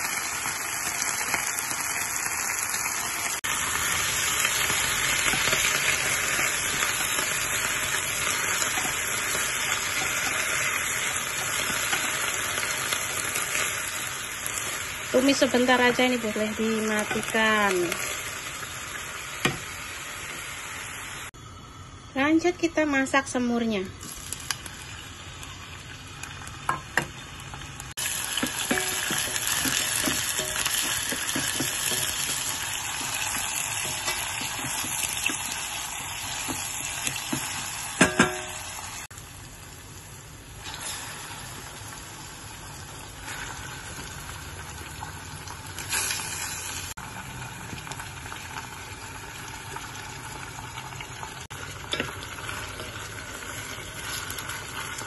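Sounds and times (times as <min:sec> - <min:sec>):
shallots sizzling in hot oil: 0:00.0 - 0:21.4, 0:22.1 - 0:55.0.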